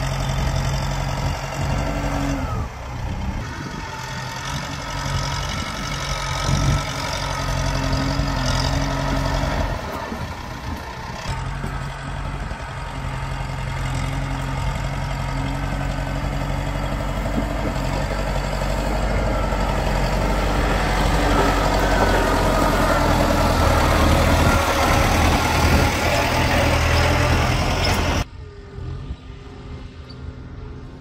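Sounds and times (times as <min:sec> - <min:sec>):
tractor diesel engine working: 0:00.0 - 0:31.0.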